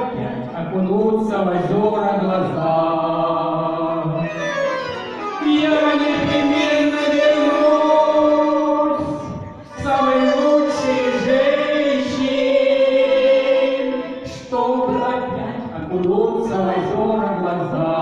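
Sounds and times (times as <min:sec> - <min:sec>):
man and woman singing duet: 0:00.0 - 0:04.6, 0:05.2 - 0:18.0
accordion: 0:00.0 - 0:18.0.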